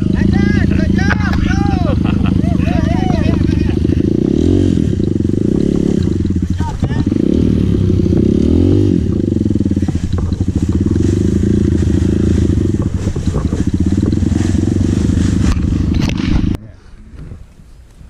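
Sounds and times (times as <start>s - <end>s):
dirt bike engine running: 0.0s - 16.6s.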